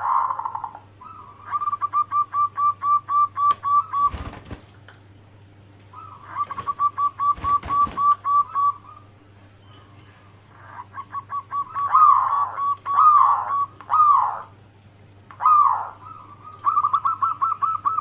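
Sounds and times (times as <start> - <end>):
dove cooing: 0.0 - 4.6, 5.9 - 9.1, 10.5 - 14.6, 15.3 - 18.0
steady low hum: 0.0 - 18.0.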